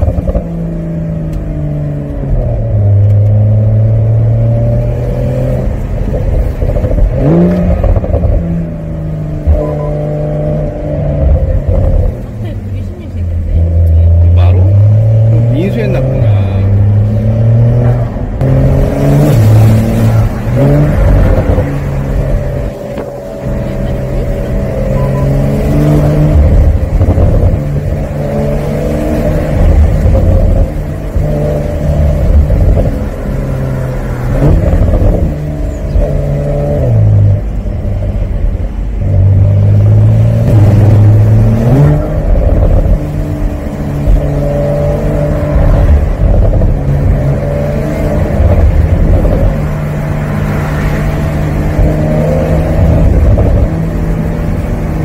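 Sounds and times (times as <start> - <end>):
car engine revving: 0.0 - 55.0
wind and road rumble: 0.0 - 55.0.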